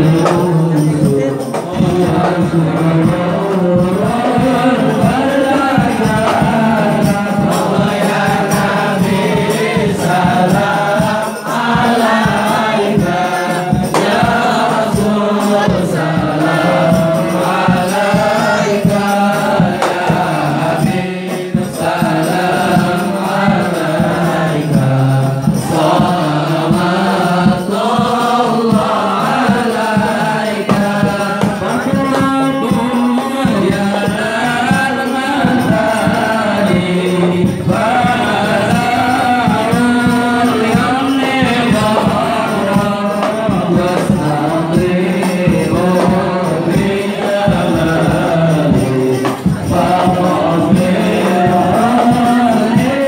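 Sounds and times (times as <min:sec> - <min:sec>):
hand drum beats: 0:00.0 - 0:53.0
men chanting in chorus: 0:00.0 - 0:53.0.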